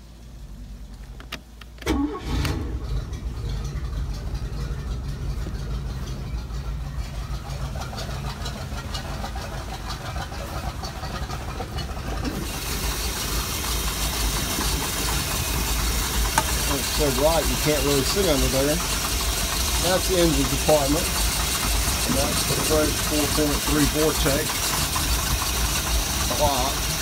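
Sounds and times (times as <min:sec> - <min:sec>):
boat engine cranking and idling: 0:00.0 - 0:27.0.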